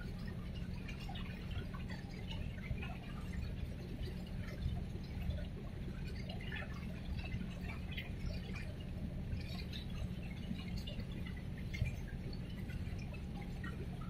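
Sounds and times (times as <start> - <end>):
water lapping and splashing: 0.0 - 14.0.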